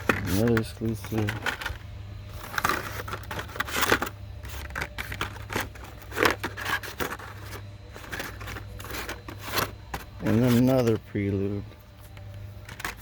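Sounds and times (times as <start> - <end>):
packaging rustling: 0.0 - 10.8
plastic packaging clicking and scraping: 0.0 - 11.0, 12.0 - 13.0
steady low hum: 0.0 - 13.0.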